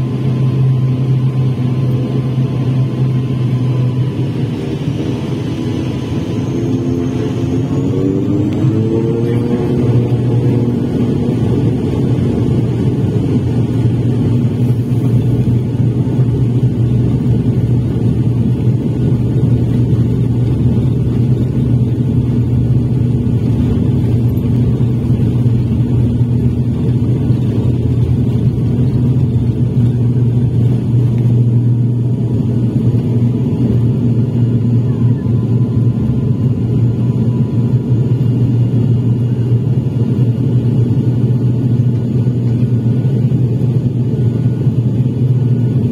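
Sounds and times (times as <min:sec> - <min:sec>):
propeller drone in cabin: 0:00.0 - 0:45.9.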